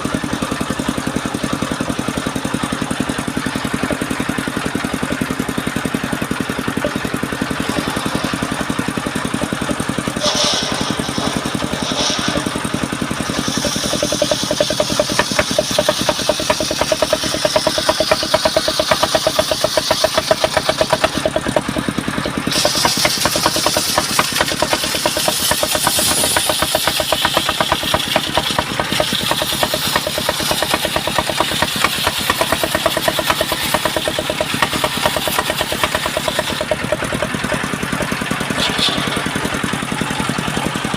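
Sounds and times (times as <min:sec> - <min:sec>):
saw blade cutting log: 0:00.0 - 0:40.9
sawmill engine running: 0:00.0 - 0:40.9.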